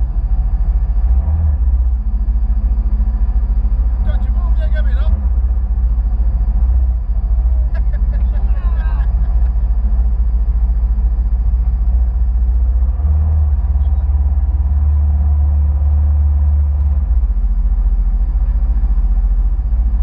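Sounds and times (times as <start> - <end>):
jet ski engine rumble: 0.0 - 20.0.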